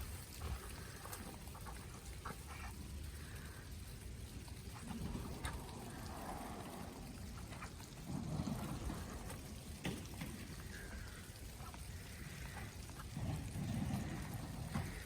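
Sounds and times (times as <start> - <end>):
water trickling and dripping: 0.0 - 15.0
sharp drip-like taps: 0.4 - 15.0.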